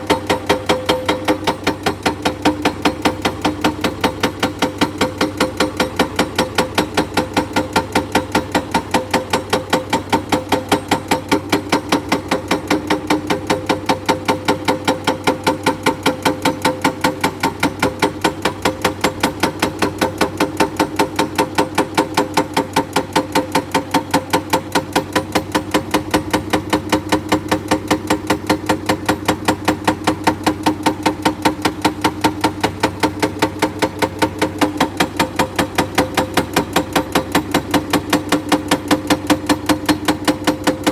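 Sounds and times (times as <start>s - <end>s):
diesel engine running: 0.0s - 40.9s
hydraulic breaker hammering rock: 0.0s - 40.9s.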